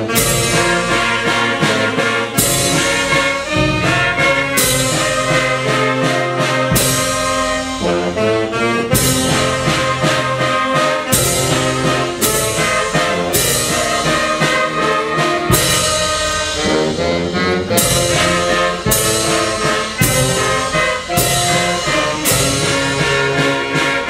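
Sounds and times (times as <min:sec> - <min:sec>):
trumpets and saxophones: 0:00.0 - 0:24.0.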